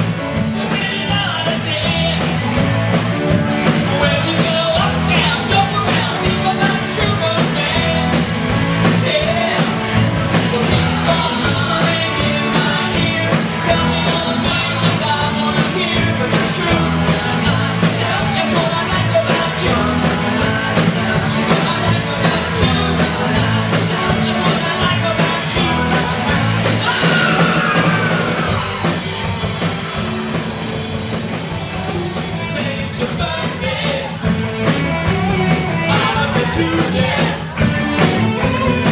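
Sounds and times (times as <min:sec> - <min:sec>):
rock band with vocals: 0:00.0 - 0:38.9.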